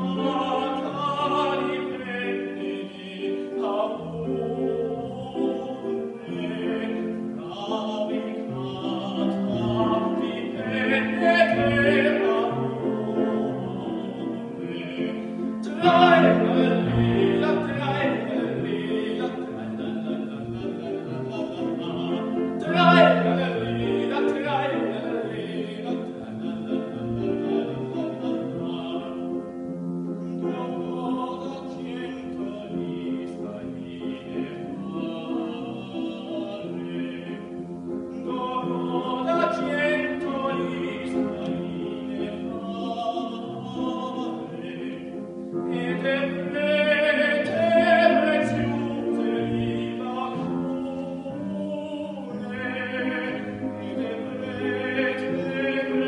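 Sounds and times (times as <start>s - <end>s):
grand piano accompaniment: 0.0s - 56.0s
man singing operatically: 0.0s - 56.0s.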